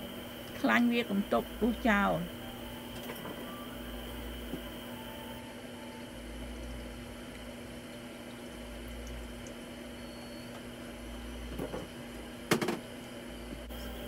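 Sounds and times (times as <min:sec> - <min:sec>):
kitchen hum: 0:00.0 - 0:14.0.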